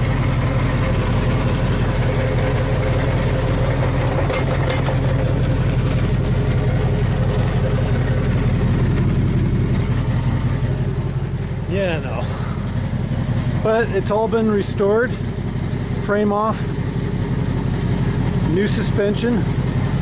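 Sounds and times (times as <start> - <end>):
truck engine idling through exhaust: 0.0 - 20.0.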